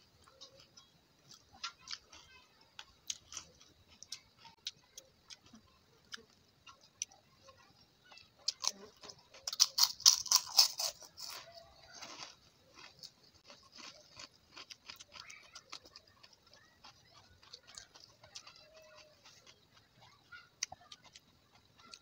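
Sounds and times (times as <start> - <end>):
chewing and mouth clicks: 0.1 - 7.7, 8.4 - 22.0.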